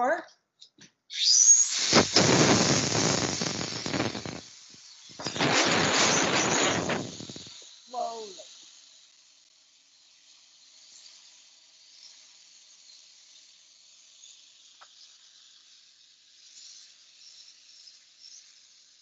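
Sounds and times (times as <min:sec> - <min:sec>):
liquid nitrogen hissing: 0:01.1 - 0:19.0.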